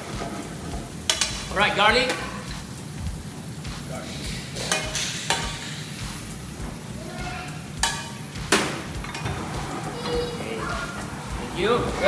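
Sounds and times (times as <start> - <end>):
hot oil sizzling in a wok: 0.0 - 12.0.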